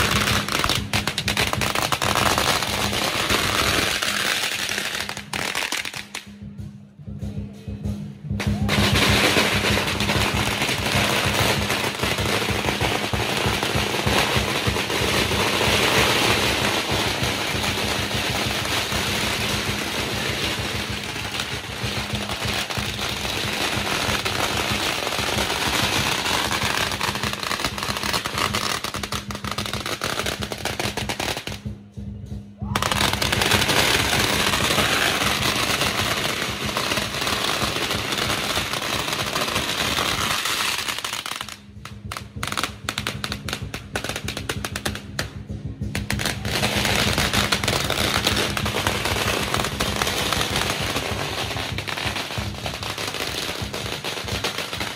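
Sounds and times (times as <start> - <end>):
firecrackers crackling: 0.0 - 6.6, 8.3 - 54.9
cymbals: 0.0 - 54.9
drumming: 0.0 - 54.9.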